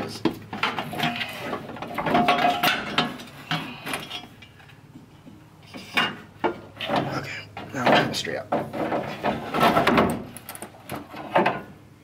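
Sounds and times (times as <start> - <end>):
radiator knocking and scraping: 0.0 - 4.4, 5.0 - 11.8.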